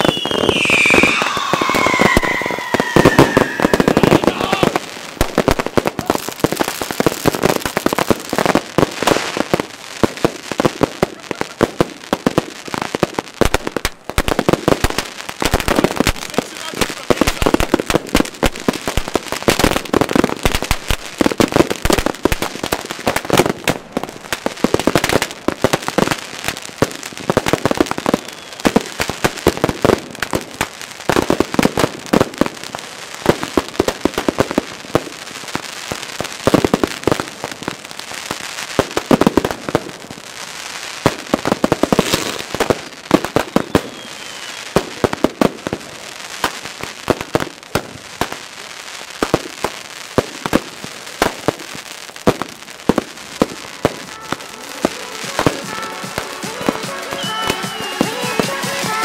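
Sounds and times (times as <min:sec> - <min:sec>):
fireworks barrage: 0:00.0 - 0:59.0.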